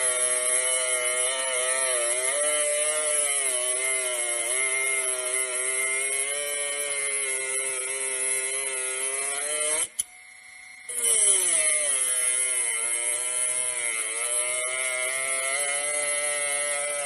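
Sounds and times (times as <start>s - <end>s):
angle grinder whining: 0.0s - 17.0s.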